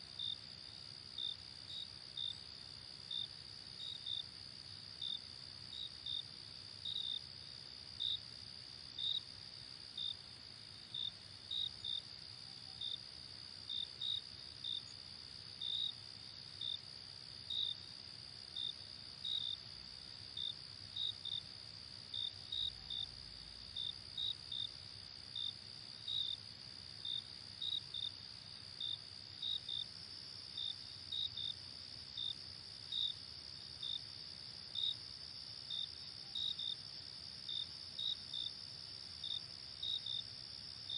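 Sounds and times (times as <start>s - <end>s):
cricket chirps: 0.0s - 40.9s.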